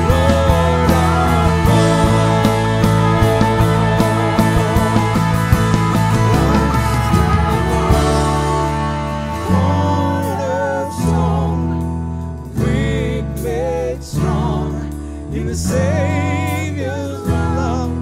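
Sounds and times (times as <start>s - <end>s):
worship music with sustained chords: 0.0s - 17.7s.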